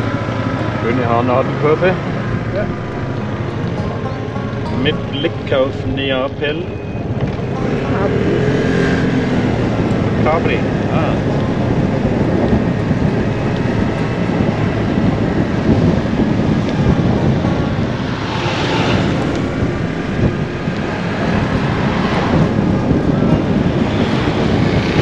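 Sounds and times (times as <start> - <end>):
passing vehicles hissing: 0.0 - 25.0
wind rushing over microphone: 0.0 - 25.0.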